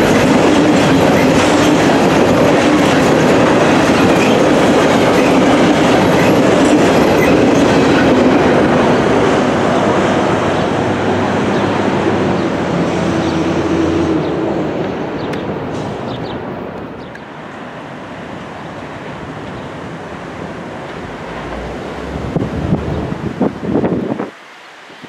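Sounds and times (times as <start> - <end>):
freight train wheels on rails: 0.0 - 24.4.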